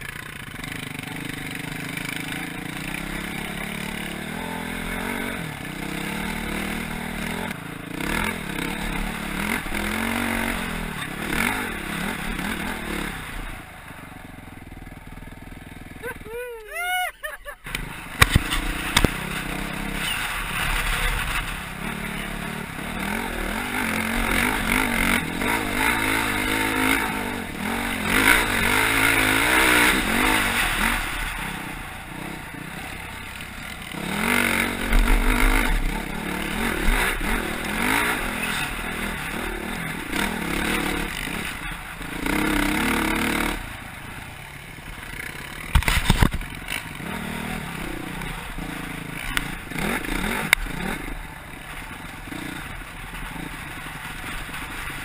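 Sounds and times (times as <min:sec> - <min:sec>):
dirt bike engine revving: 0:00.0 - 0:44.2, 0:44.8 - 0:55.0.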